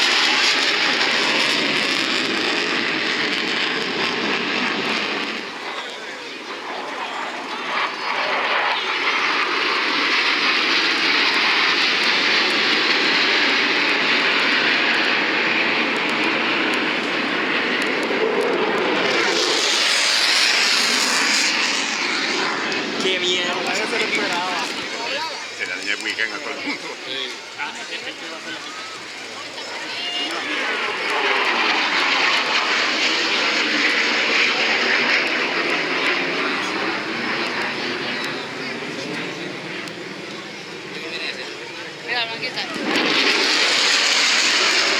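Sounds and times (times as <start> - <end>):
jet engine rushing: 0.0 - 44.9.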